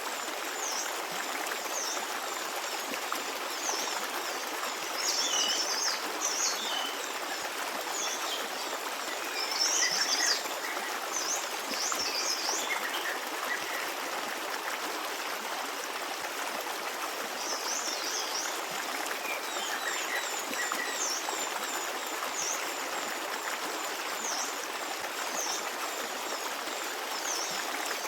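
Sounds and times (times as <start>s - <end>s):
stream babbling: 0.0s - 28.0s.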